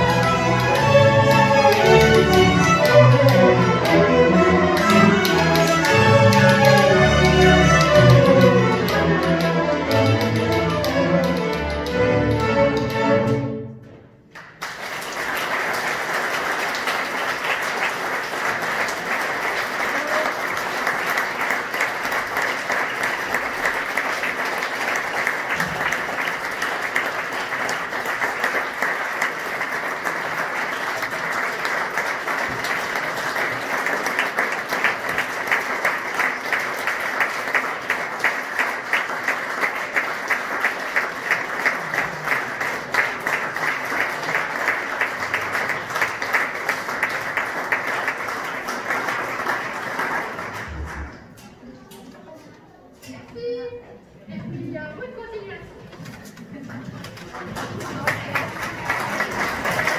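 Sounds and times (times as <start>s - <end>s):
audience applauding: 0.0s - 13.4s, 14.3s - 51.8s, 56.1s - 59.9s
rhythmic clapping in unison: 0.0s - 13.6s, 14.2s - 51.4s, 56.8s - 59.9s.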